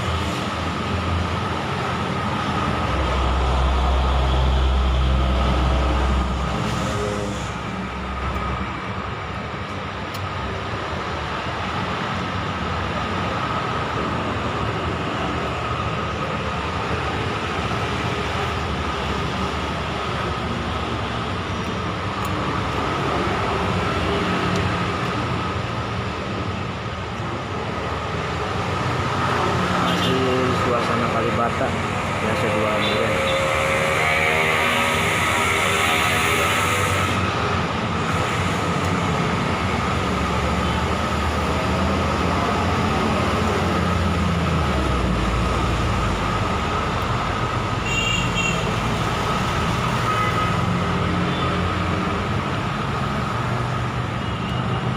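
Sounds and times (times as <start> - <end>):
urban traffic noise: 0.0 - 54.9.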